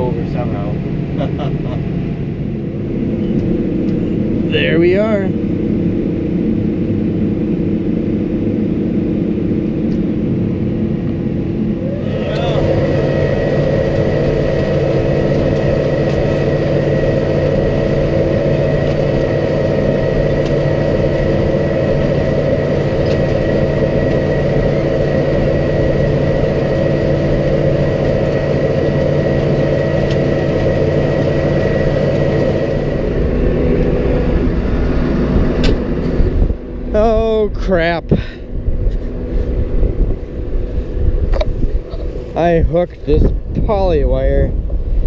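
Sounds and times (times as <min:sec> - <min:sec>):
thin steady whine: 0:00.0 - 0:45.0
tractor engine running: 0:00.0 - 0:45.0.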